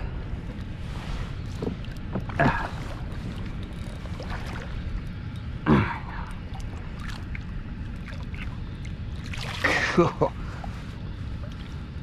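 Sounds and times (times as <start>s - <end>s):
water lapping around kayak: 0.0s - 12.0s
wind rumble: 0.0s - 12.0s.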